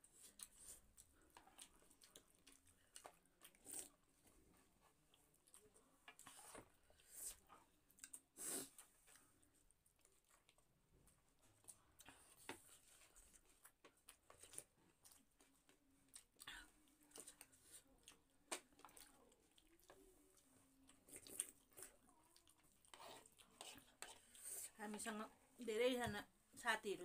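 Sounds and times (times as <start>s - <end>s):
chewing: 0.1s - 25.0s.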